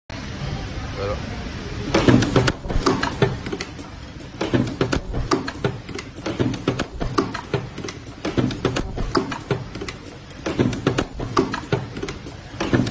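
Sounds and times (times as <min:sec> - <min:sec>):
machine mechanical clicks and clacks: 0:01.8 - 0:12.9.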